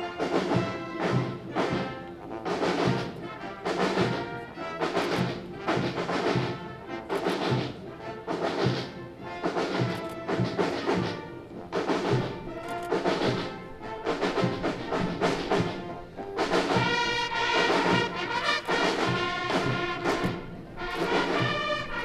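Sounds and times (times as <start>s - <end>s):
brass band playing a march: 0.0s - 22.0s.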